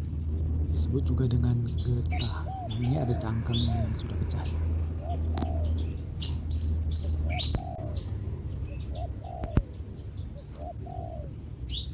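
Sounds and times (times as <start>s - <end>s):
dove cooing: 0.0s - 11.9s
small birds chirping: 0.0s - 11.9s.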